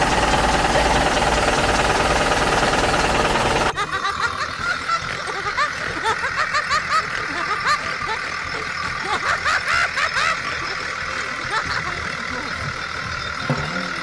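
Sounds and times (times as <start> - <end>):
cartoon engine-like rumble: 0.0 - 14.0.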